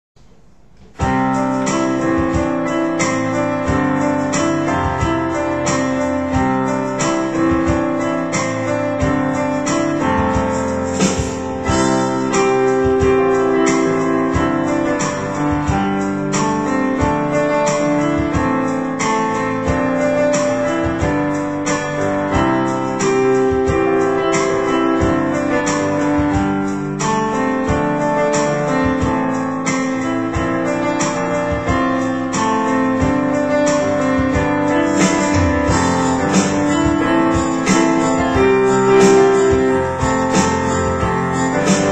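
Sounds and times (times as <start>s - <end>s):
electronic keyboard piano chords: 0.4s - 41.9s.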